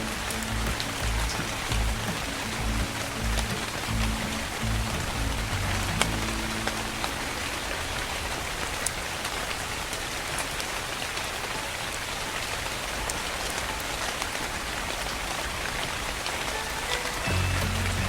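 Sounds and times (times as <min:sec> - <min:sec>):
soft rain falling: 0:00.0 - 0:18.0.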